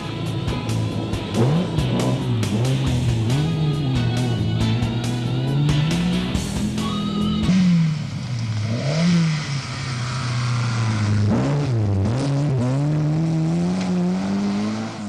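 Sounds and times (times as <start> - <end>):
rally car engine revving hard: 0.6 - 6.6, 7.4 - 15.0.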